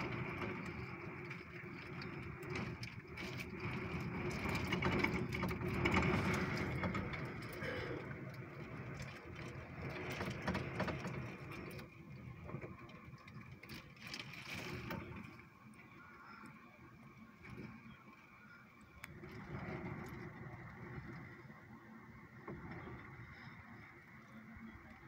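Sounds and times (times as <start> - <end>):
rain on window pane: 0.0 - 24.6.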